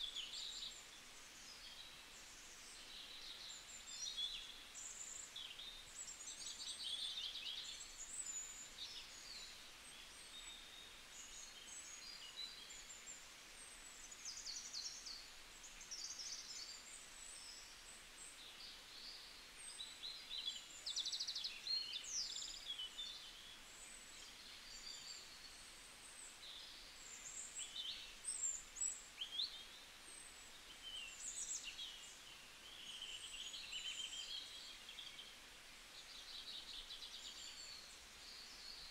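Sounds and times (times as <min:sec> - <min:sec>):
light steady hiss: 0:00.0 - 0:38.9.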